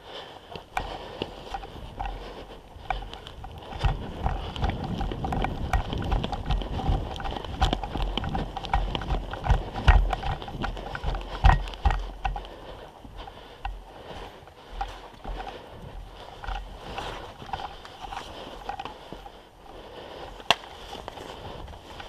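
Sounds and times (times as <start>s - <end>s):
footsteps crunching through snow: 0.7s - 22.0s.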